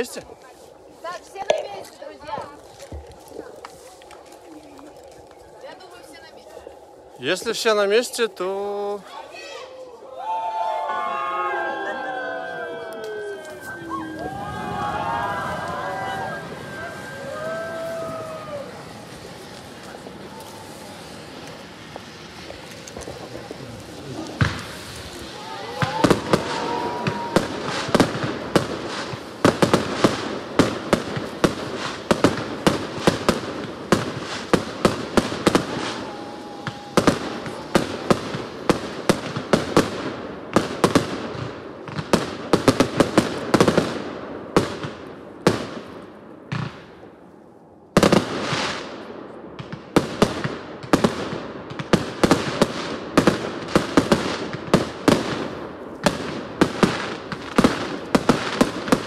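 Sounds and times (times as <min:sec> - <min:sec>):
fireworks bangs and crackles: 0:00.0 - 0:09.2, 0:10.5 - 0:59.0.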